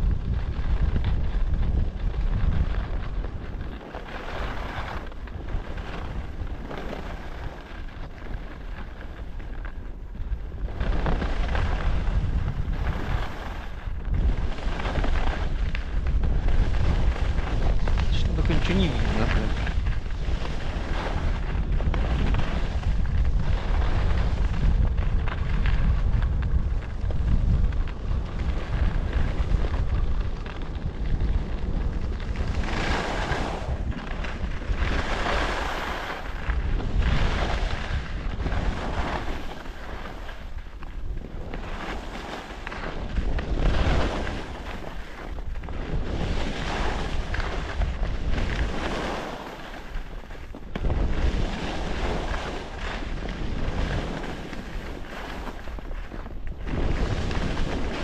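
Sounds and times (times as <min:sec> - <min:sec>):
skis scraping over snow: 0:00.0 - 0:58.0
wind buffeting microphone: 0:00.0 - 0:58.0.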